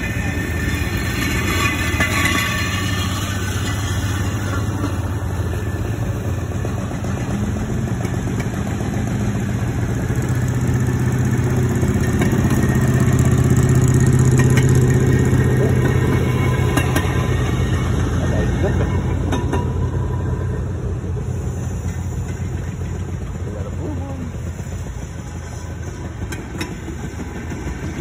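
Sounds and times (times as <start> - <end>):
rail motorcar engines humming: 0.0 - 28.0.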